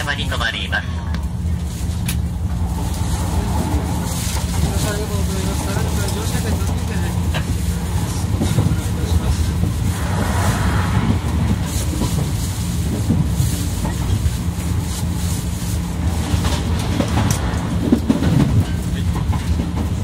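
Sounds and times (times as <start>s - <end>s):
train wheels rumbling and humming: 0.0s - 20.0s
clickety-clack over rail joints: 1.1s - 9.9s, 10.9s - 20.0s.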